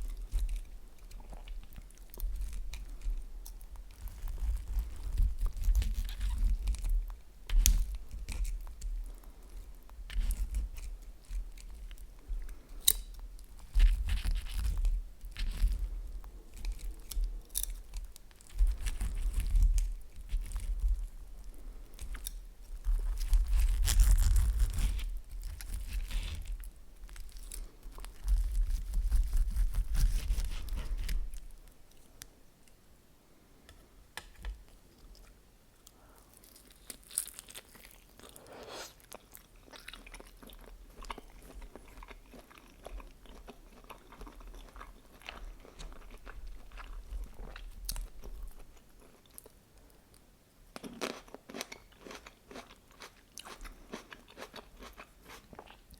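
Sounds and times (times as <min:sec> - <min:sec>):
chewing food with crunching: 0:00.0 - 0:32.0, 0:34.7 - 0:55.9.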